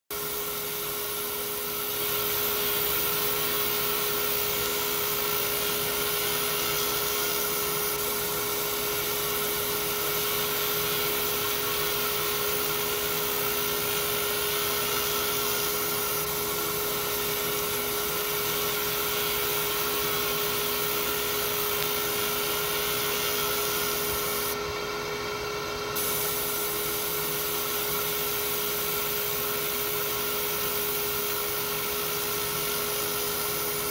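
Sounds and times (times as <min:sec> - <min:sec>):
laser engraver hiss: 0:00.1 - 0:24.6, 0:25.9 - 0:33.9.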